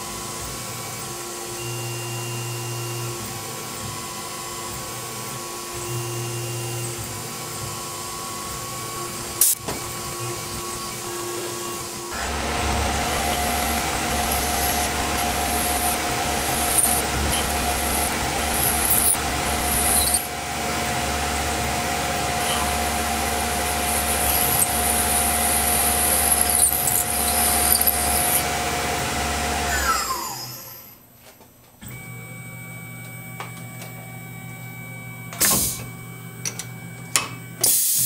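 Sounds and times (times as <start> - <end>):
drill cutting aluminum in pulses: 0.0 - 31.0
mill spindle whining: 0.0 - 31.1.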